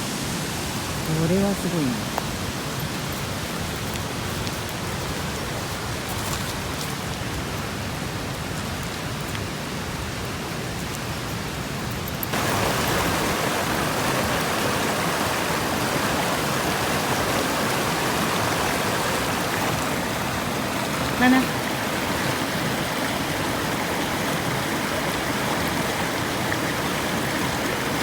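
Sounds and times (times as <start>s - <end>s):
stream water flowing: 0.0s - 28.0s.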